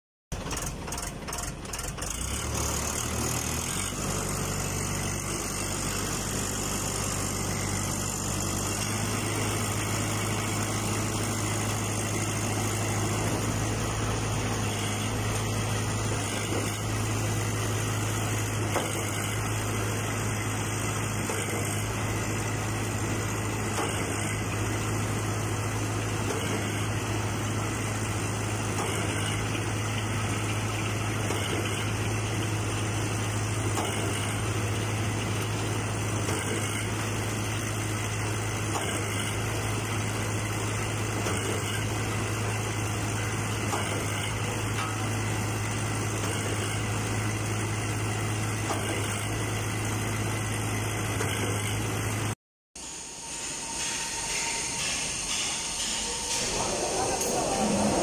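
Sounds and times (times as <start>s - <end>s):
concrete mixer pump humming: 0.3s - 58.0s.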